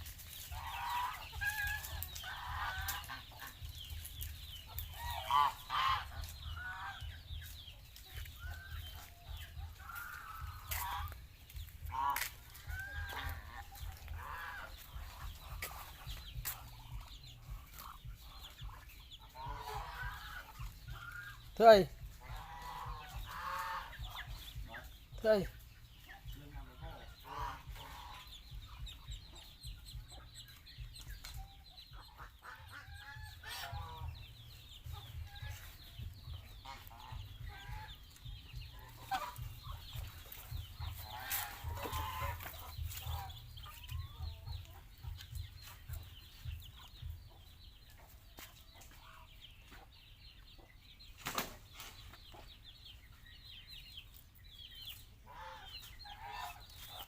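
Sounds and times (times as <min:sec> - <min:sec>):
steady low rumble: 0:00.0 - 0:49.4
geese calling: 0:00.0 - 0:49.7, 0:54.1 - 0:57.0.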